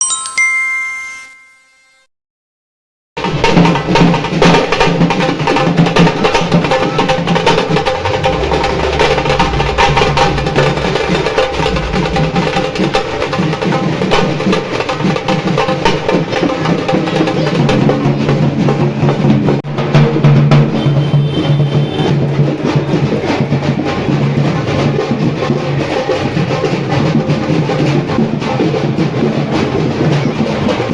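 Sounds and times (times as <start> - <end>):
music with heavy drumming: 3.2 - 30.9.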